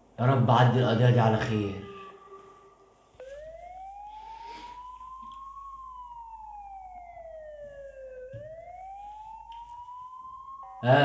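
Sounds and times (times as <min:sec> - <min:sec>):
siren wailing: 0:00.9 - 0:11.0.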